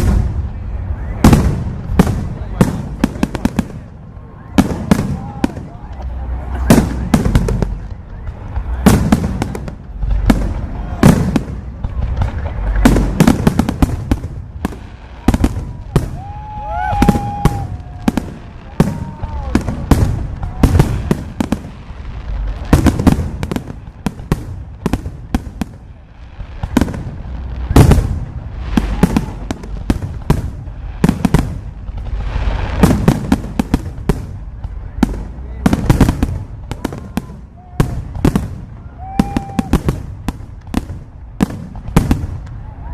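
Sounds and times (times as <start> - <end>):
fireworks bangs and crackles: 0.0 - 42.9
fireworks whistling: 0.0 - 42.9.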